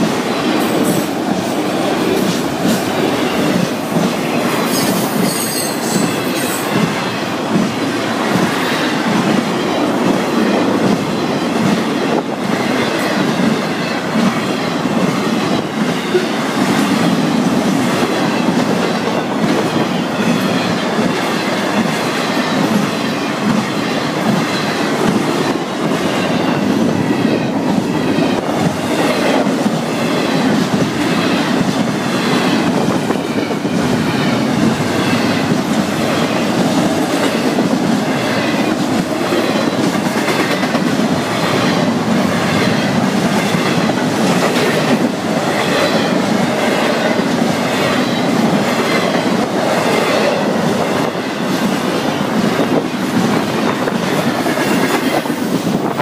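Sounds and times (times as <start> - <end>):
freight train cars rolling past: 0.0 - 56.0
wheels clickety-clack on rail: 0.0 - 56.0.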